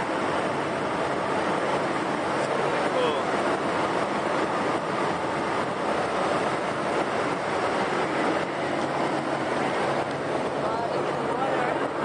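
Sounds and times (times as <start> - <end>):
propeller airliner cabin noise: 0.0 - 12.0.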